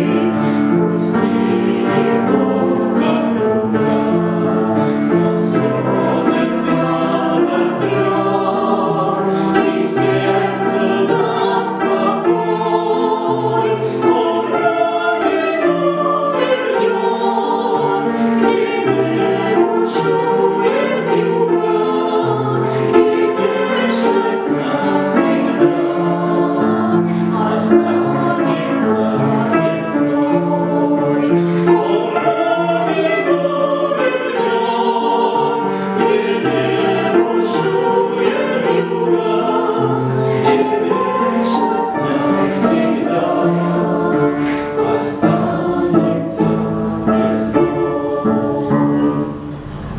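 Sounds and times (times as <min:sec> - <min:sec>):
choir singing in harmony: 0:00.0 - 0:49.9.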